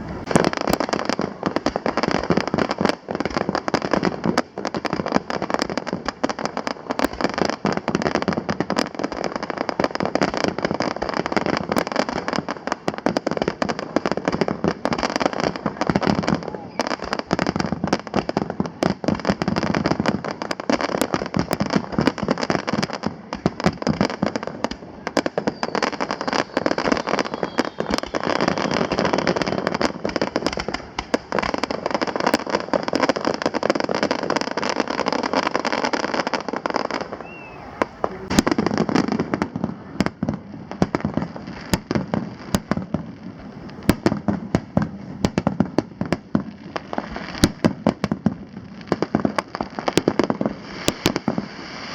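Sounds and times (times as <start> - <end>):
fireworks bursting and crackling: 0.0 - 51.9.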